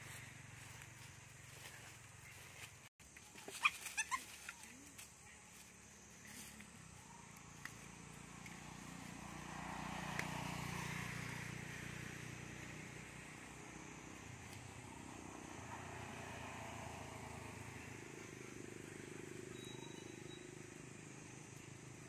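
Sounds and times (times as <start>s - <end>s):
distant vehicle engine hum: 0.0s - 22.0s.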